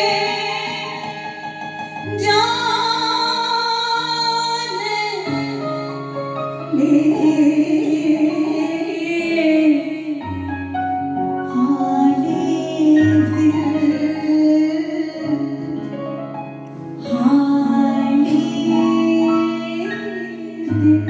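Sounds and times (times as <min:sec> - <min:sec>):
soft instrumental accompaniment: 0:00.0 - 0:21.0.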